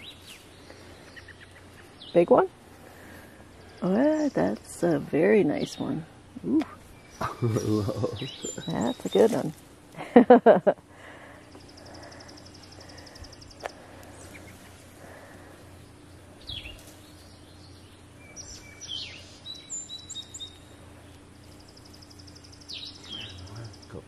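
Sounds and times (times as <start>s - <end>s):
faint steady hum: 0.0s - 24.0s
songbirds singing: 0.0s - 24.0s.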